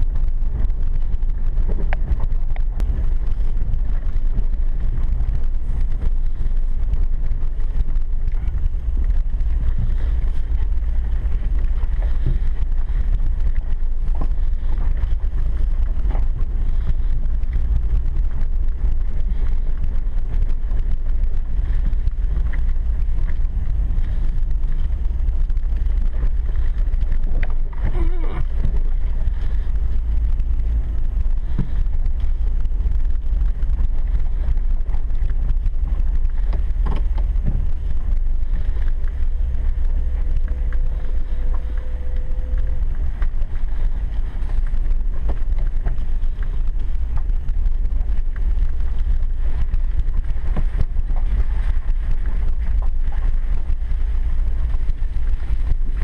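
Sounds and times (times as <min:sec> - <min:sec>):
truck rumbling on dirt road: 0:00.0 - 0:56.0.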